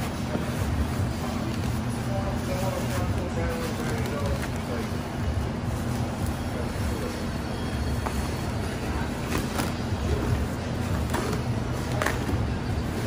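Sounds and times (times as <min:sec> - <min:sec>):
bubble wrap rustling and crinkling: 0:00.0 - 0:13.0.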